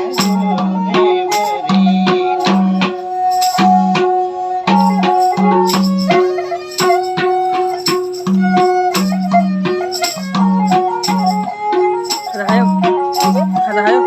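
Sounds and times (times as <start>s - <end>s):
bowed string melody: 0.0s - 14.0s
hand drum rhythm: 0.0s - 14.0s.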